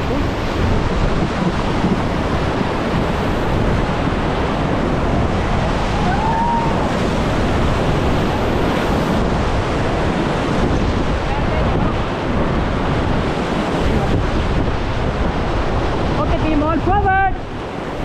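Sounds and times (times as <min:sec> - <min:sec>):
whitewater rushing and splashing: 0:00.0 - 0:18.0
wind buffeting microphone: 0:00.0 - 0:18.0.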